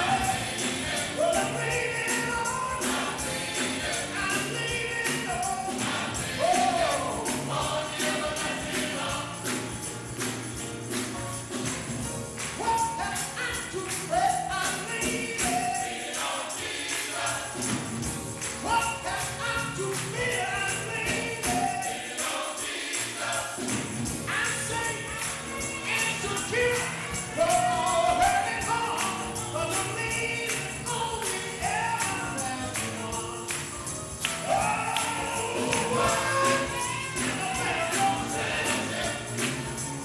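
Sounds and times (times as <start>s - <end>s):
gospel choir singing: 0.0s - 40.0s
music accompaniment: 0.0s - 40.0s
tambourine jingling: 0.0s - 40.0s.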